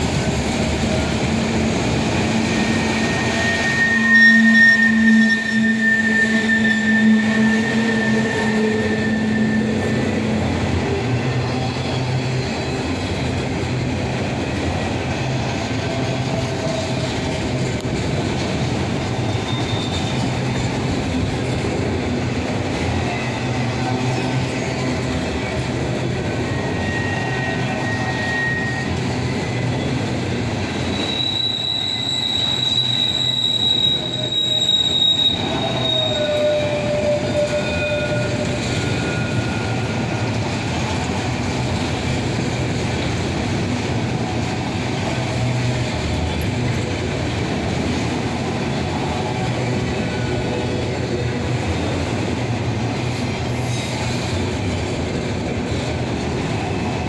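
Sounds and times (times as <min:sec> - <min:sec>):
train wheels squealing on rail: 0:00.0 - 0:57.0.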